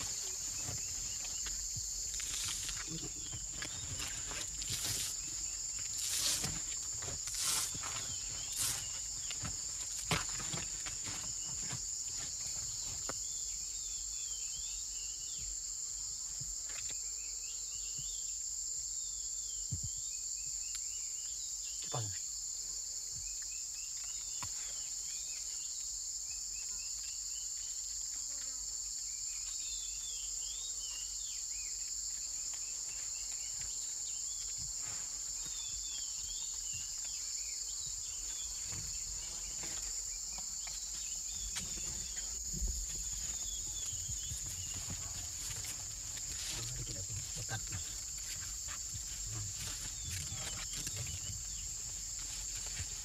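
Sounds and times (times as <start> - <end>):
jungle insects chorus: 0.0 - 53.0.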